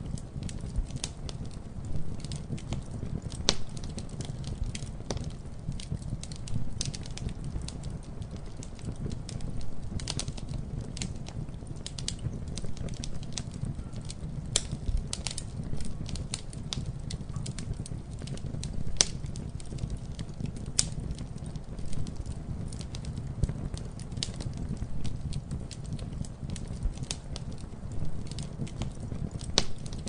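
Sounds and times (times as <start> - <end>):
low rumble of flames: 0.0 - 30.0
wood fire crackling: 0.0 - 30.0.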